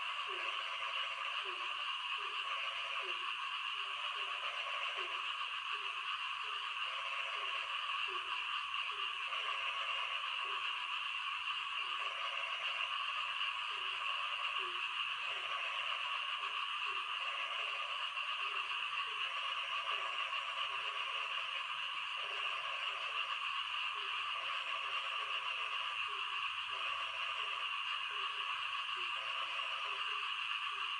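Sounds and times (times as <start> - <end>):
frogs croaking: 0.0 - 30.9.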